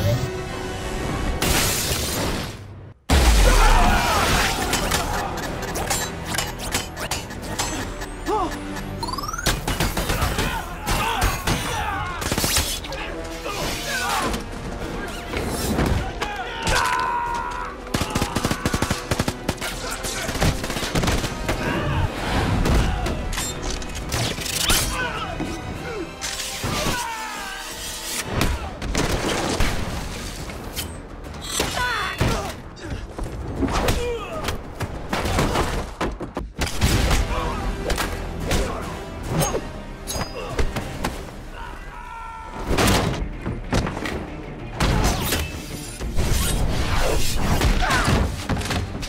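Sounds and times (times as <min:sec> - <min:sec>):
film score music: 0:00.0 - 0:49.0.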